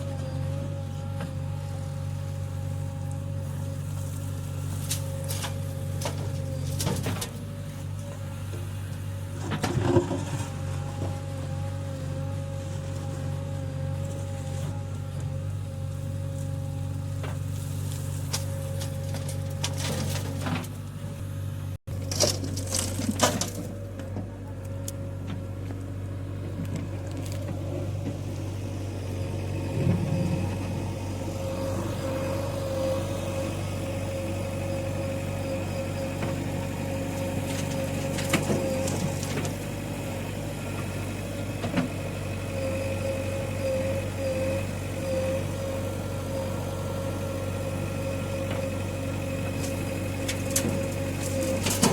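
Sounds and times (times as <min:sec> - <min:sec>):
diesel machinery running: 0:00.0 - 0:51.9.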